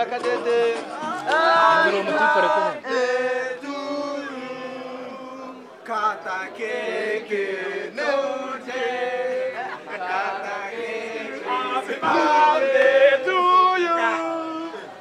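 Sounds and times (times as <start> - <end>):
group of voices singing and chanting: 0.0 - 15.0.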